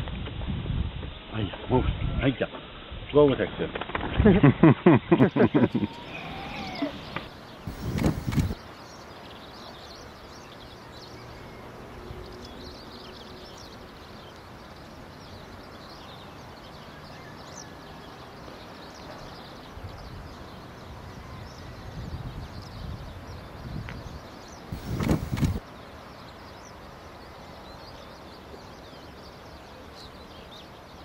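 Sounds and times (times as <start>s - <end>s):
outdoor background noise: 0.0s - 31.0s
small birds chirping: 5.0s - 31.0s.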